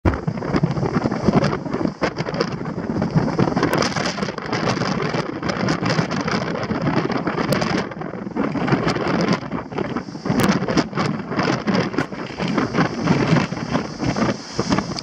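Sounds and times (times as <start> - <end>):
wind gusts buffeting microphone: 0.0 - 15.0.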